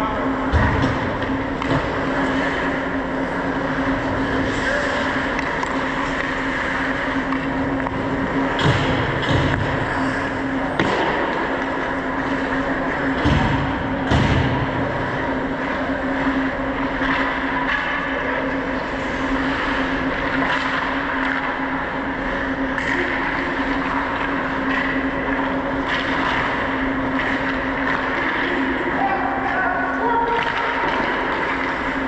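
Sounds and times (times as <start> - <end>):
constant hum: 0.0 - 32.0.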